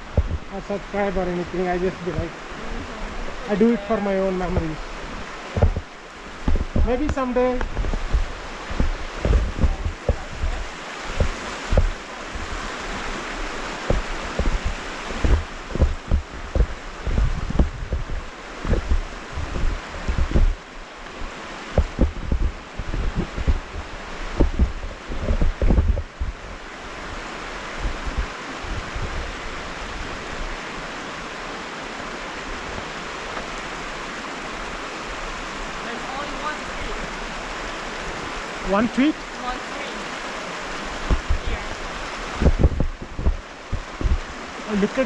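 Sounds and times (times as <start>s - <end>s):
wind buffeting microphone: 0.0s - 39.3s, 40.0s - 45.0s
flowing creek water: 0.0s - 45.0s.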